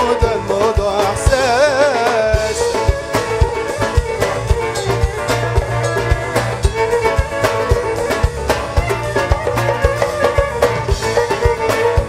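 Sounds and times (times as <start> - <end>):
band playing folk music: 0.0 - 12.0
plucked strings: 0.0 - 12.0
violin: 0.0 - 12.0.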